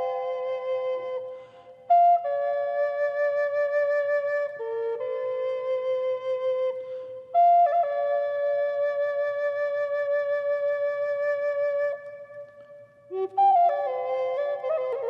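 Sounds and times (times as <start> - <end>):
solo flute long notes: 0.0 - 15.0.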